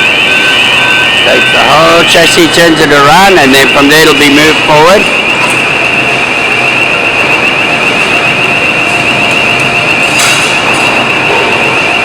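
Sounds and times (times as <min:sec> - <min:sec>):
factory noise: 0:00.0 - 0:12.0
warbling warning alarm: 0:00.0 - 0:12.0.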